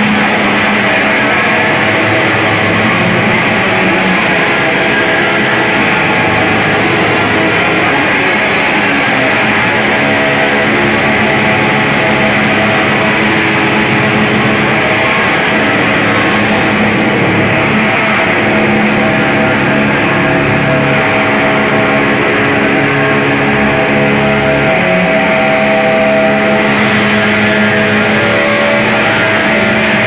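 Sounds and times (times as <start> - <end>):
distorted electric guitar drone: 0.0 - 30.0.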